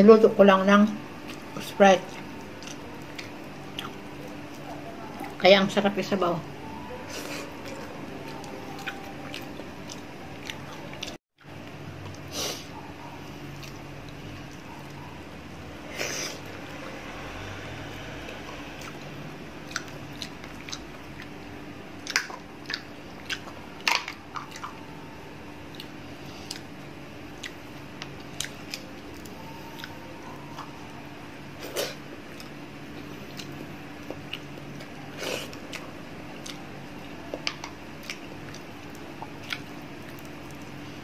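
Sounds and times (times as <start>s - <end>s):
steady low hum: 0.0s - 41.0s
person chewing food: 0.9s - 5.4s, 7.1s - 15.2s, 17.9s - 31.0s, 31.6s - 41.0s.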